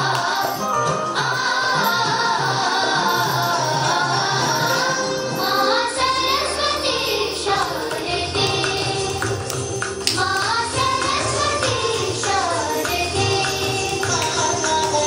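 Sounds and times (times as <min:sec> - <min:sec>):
song with singing voices: 0:00.0 - 0:15.0.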